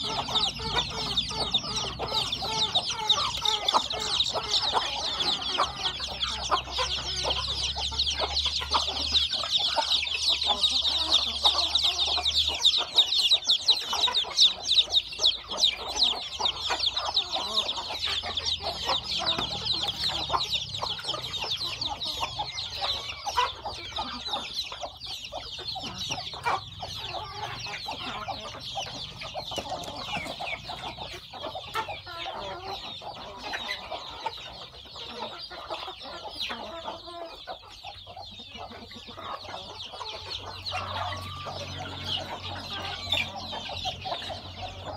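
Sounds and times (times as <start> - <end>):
chicken clucks: 0.0 - 44.9
chicks peeping: 0.0 - 44.9.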